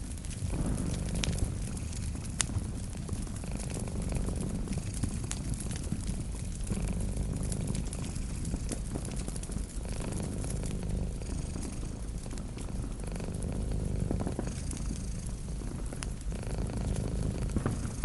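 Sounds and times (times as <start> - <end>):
cat purring: 0.0 - 18.0
wood fire crackling and popping: 0.0 - 18.0.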